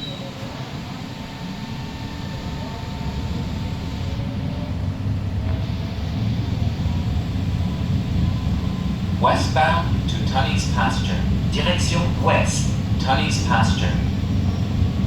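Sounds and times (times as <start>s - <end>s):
faint steady whine: 0.0s - 15.0s
train motors and wheels rumbling: 0.0s - 15.0s.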